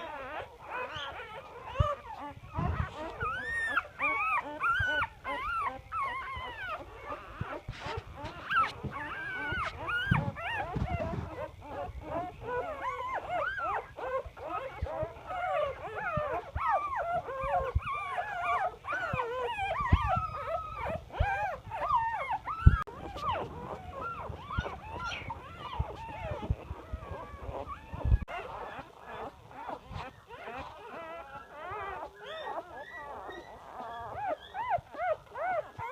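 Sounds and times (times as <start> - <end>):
puppies whining and squeaking: 0.0 - 35.9.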